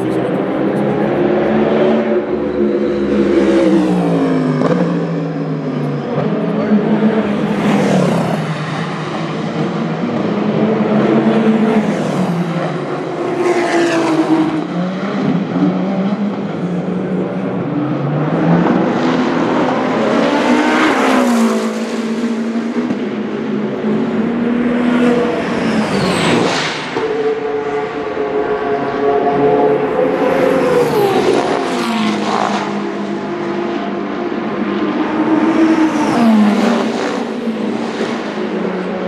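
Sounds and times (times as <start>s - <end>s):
race cars passing at speed: 0.0s - 39.0s.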